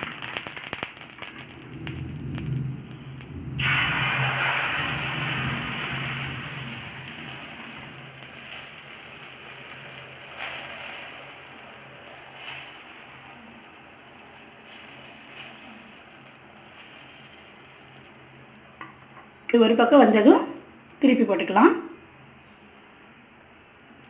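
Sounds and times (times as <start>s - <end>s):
batter sizzling in oil: 0.0s - 19.8s.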